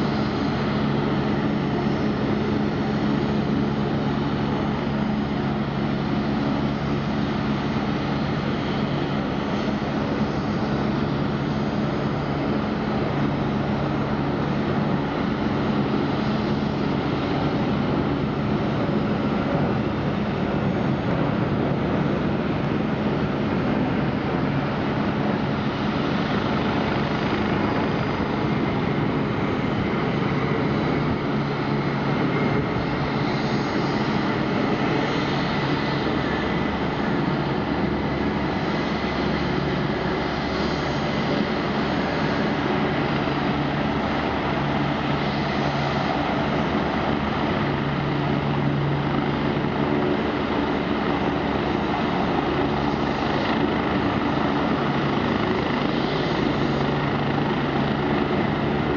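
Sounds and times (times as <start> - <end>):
helicopter engine and rotor: 0.0 - 58.9.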